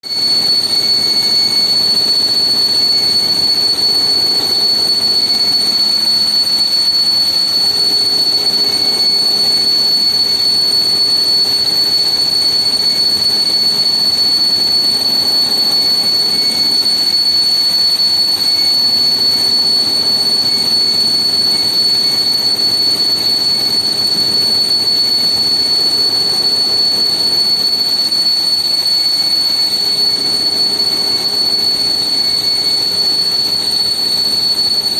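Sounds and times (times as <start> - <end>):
milling machine whine: 0.1 - 34.9.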